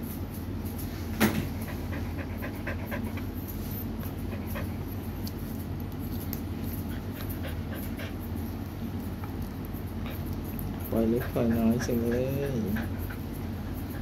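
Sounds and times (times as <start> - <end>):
steady low hum: 0.0 - 14.0
dog panting: 1.4 - 5.3, 6.6 - 14.0.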